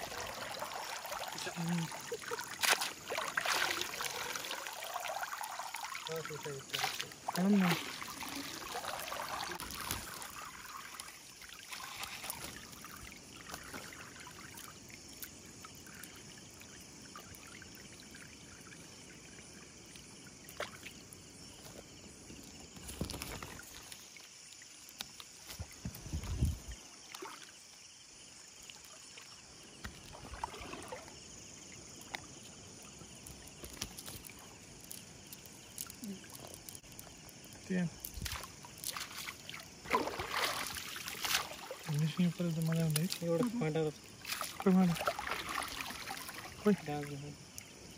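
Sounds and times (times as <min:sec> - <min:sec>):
small water splashes: 0:00.0 - 0:47.9
water dripping and trickling: 0:00.0 - 0:47.9.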